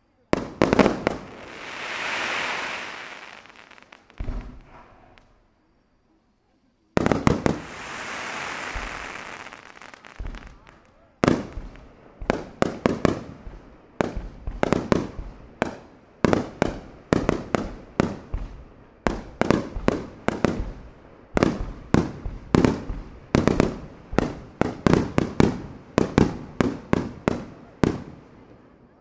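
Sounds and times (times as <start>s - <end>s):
fireworks bursting: 0.1s - 5.5s, 7.0s - 28.7s.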